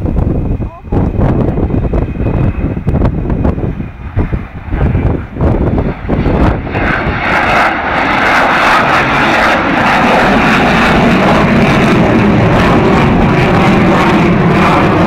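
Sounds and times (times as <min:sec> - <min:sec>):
loud jet roar: 0:00.0 - 0:15.0.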